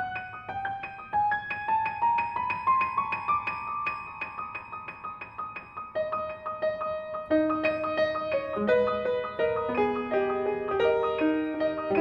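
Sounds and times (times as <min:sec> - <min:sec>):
solo piano playing: 0:00.0 - 0:12.0.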